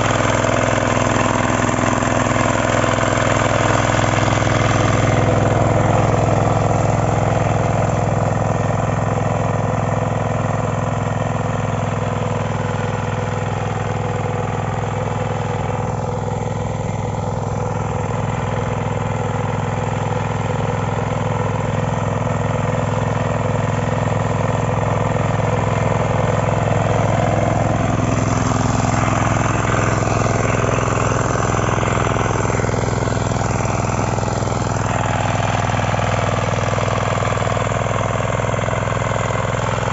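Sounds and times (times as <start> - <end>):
power weeder engine running: 0.0 - 39.9.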